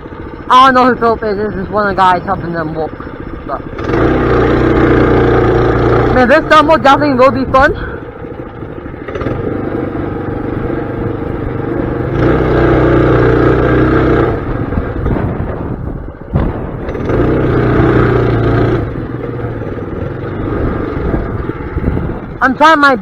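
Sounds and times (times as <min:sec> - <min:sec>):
mini bike engine revving: 0:00.0 - 0:22.9.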